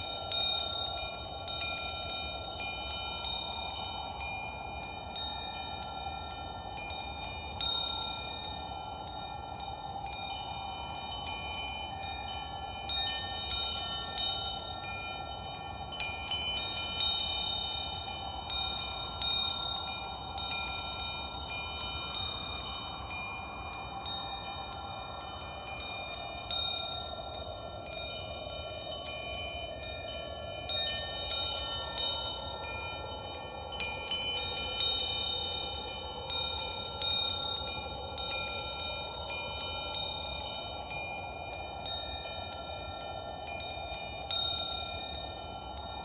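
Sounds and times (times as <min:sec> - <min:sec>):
metal wind chimes ringing: 0:00.0 - 0:46.0.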